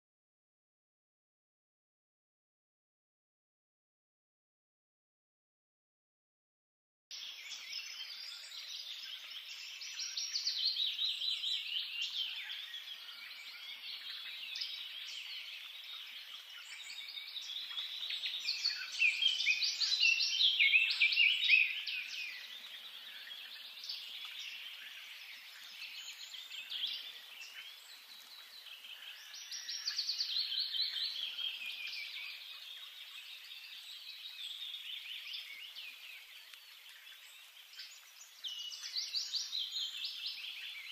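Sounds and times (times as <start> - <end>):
small birds chirping and singing: 7.1 - 40.9.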